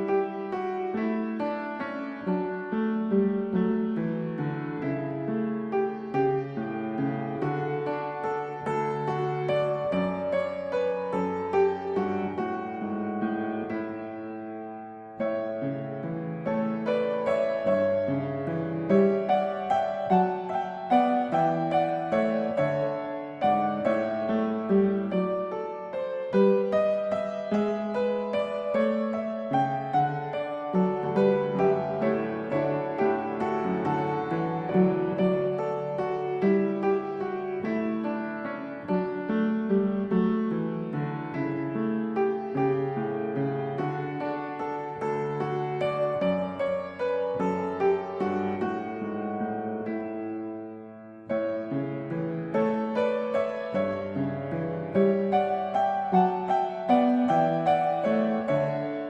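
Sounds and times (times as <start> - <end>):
slow piano melody: 0.0 - 59.0.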